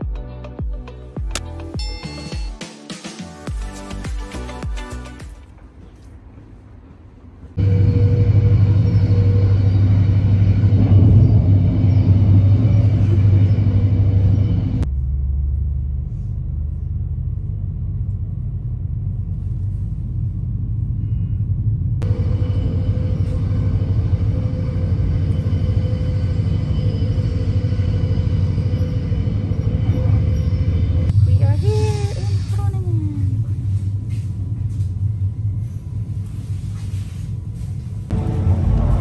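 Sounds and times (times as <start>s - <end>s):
train rumbling inside carriage: 5.4s - 39.0s.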